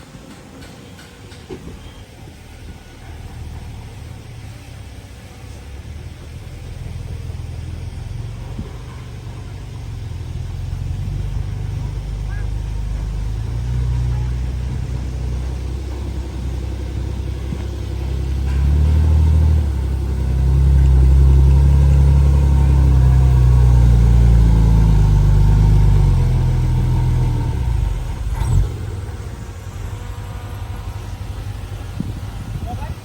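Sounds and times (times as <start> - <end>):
heavy diesel engine working: 0.0 - 33.0.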